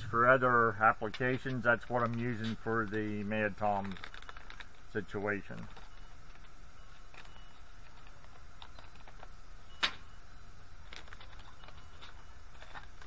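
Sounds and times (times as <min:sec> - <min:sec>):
low background noise: 0:00.0 - 0:13.0
plastic baits clicking and rustling: 0:00.9 - 0:10.0, 0:10.8 - 0:13.0.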